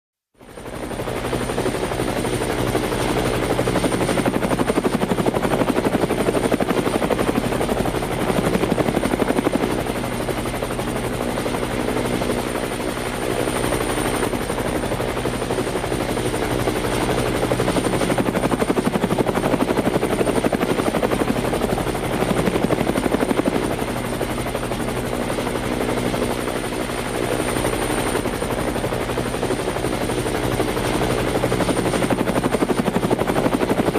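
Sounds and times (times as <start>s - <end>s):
helicopter rotor beating: 0.4s - 33.9s.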